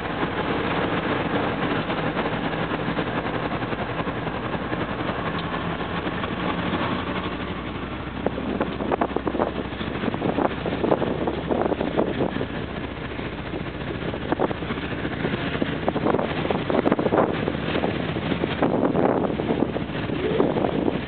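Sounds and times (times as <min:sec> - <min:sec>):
diesel locomotives rumbling past: 0:00.0 - 0:21.0.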